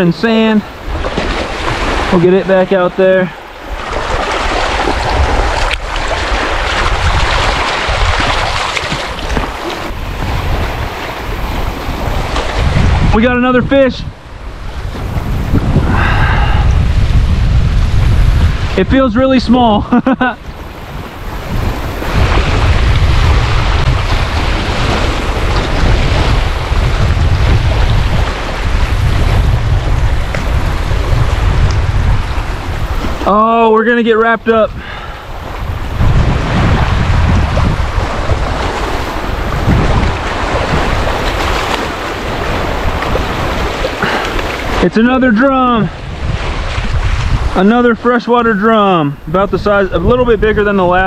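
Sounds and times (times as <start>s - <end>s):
lake waves on a beach: 0.0s - 51.0s
wind buffeting microphone: 0.0s - 51.0s.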